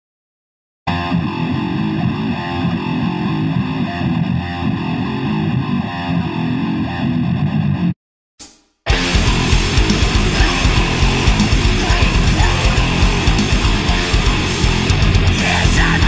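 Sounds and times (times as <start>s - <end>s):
distorted electric guitar riff: 0.9s - 8.0s, 8.9s - 16.0s.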